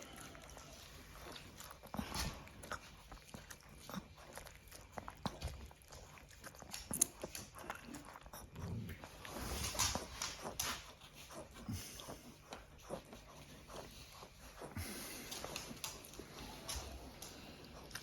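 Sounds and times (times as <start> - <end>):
dog wet smacking and chewing: 0.0 - 18.0.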